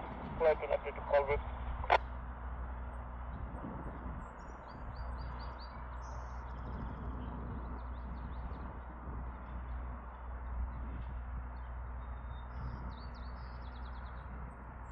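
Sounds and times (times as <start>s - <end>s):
songbirds chirping: 0.0s - 14.9s
steady low hum: 0.0s - 14.9s.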